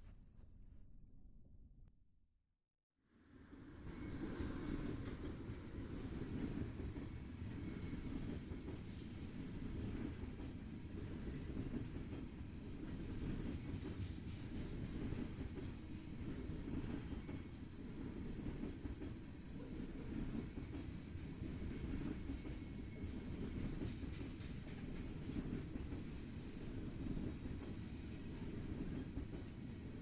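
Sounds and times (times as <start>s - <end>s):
train cars rolling on rails: 4.0s - 30.0s.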